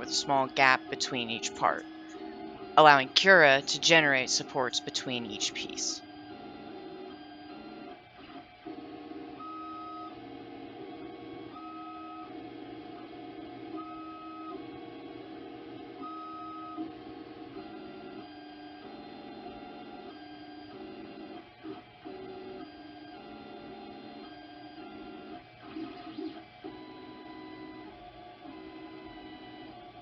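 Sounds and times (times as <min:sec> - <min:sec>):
printer stepper motors whining: 0:00.0 - 0:30.0.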